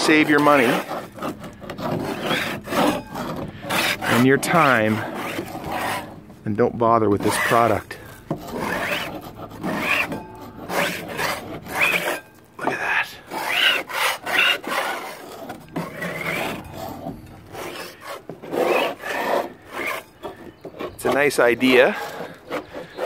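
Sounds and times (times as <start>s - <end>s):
scraper rasping on wooden boards: 0.0s - 23.0s.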